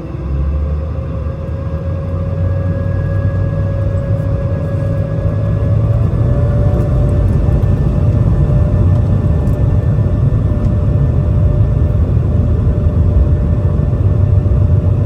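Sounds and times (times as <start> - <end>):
jet engines rumbling with whine: 0.0 - 15.0.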